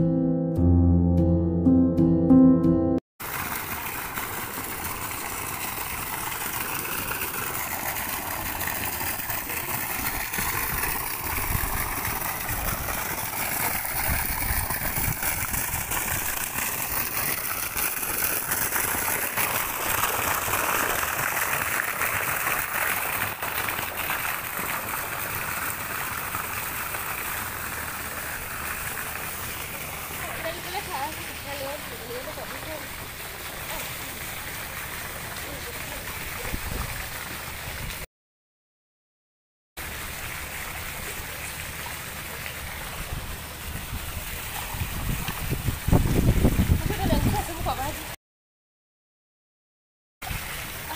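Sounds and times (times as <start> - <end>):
pool water splashing and lapping: 3.2 - 38.1, 39.8 - 48.2, 50.2 - 50.9.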